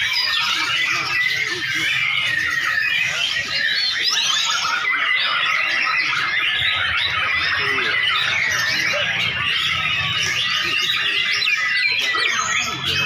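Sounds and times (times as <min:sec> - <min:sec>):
many birds singing: 0:00.0 - 0:13.0.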